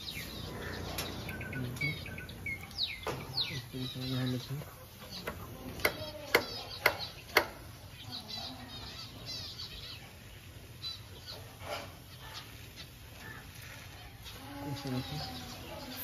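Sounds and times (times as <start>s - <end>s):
parrots squawking and chattering: 0.0s - 16.0s.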